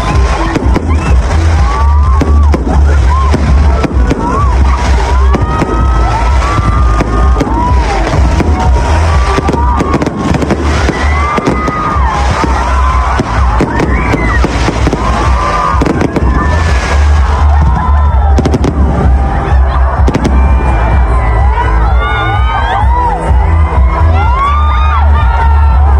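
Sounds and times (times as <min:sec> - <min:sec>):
deep rumble of booms: 0:00.0 - 0:21.8
firework bangs and crackles: 0:00.0 - 0:25.9.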